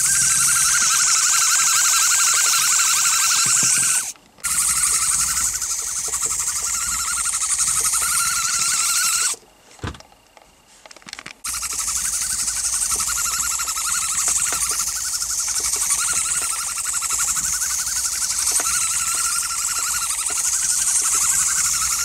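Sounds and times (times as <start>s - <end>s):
toy motor and gears whining: 0.0s - 9.4s, 11.4s - 22.0s.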